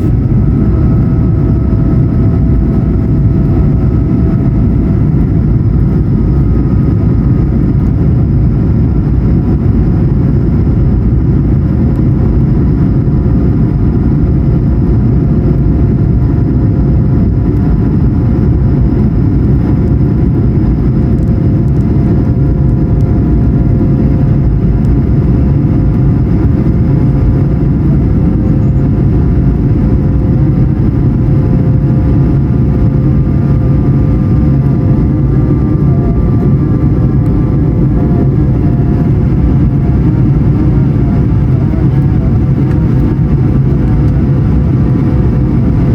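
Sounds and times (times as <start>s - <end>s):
airplane cabin rumble: 0.0s - 45.9s
faint steady engine tones: 0.0s - 45.9s.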